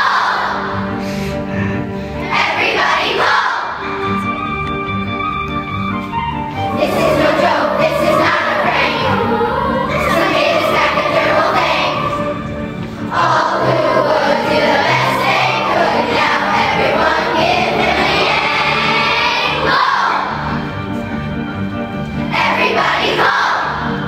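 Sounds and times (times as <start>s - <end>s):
children's choir singing: 0.0s - 4.8s, 6.5s - 24.0s
low instrumental accompaniment: 0.0s - 24.0s.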